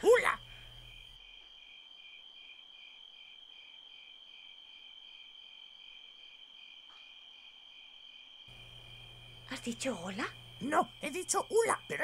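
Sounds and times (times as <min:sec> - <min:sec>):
crickets trilling: 0:00.0 - 0:12.0
pulsing cricket chirp: 0:00.0 - 0:12.0.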